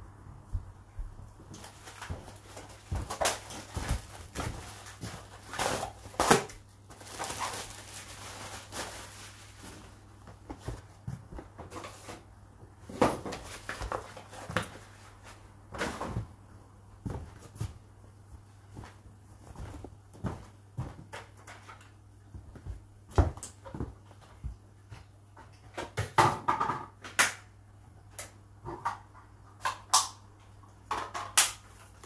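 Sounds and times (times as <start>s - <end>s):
dishwasher low hum: 0.0s - 27.0s.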